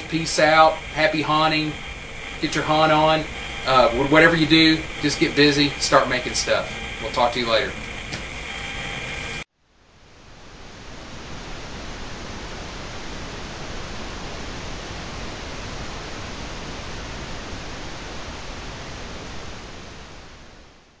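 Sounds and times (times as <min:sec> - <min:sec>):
steady static hiss: 0:00.0 - 0:21.0.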